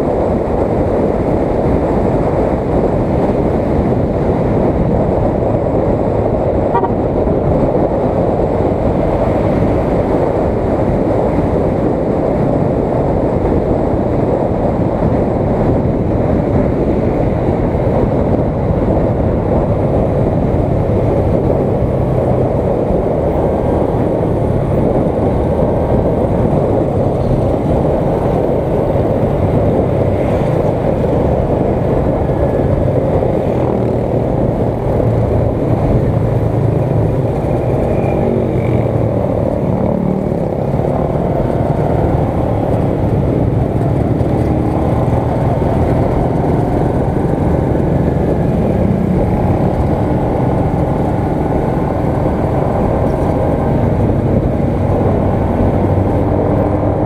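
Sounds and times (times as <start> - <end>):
motorcycle engine rumble: 0.0 - 57.0
wind noise: 0.0 - 57.0.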